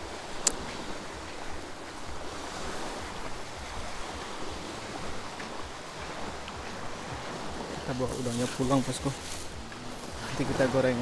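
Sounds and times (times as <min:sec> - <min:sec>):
small waves washing ashore: 0:00.0 - 0:11.0
wind on microphone: 0:00.0 - 0:11.0.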